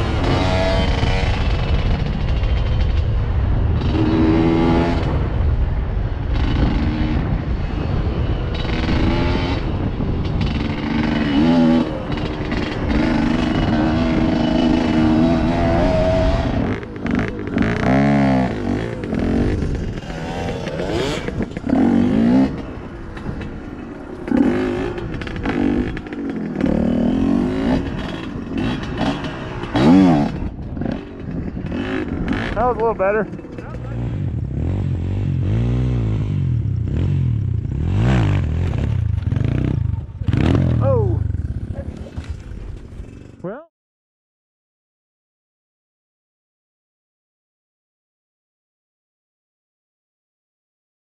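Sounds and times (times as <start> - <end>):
dirt bike engine revving: 0.0 - 5.4, 6.3 - 7.4, 8.0 - 43.4.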